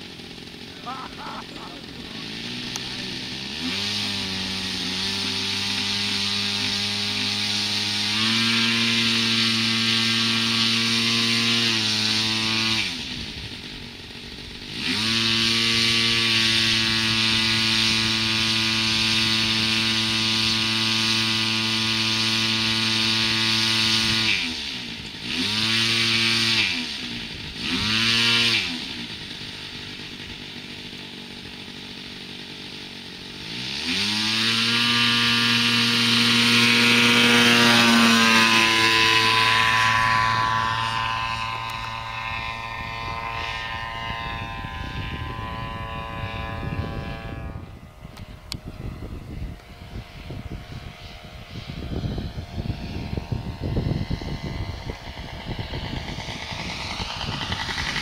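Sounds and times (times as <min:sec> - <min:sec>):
model airplane engine revving: 0:00.0 - 0:58.0.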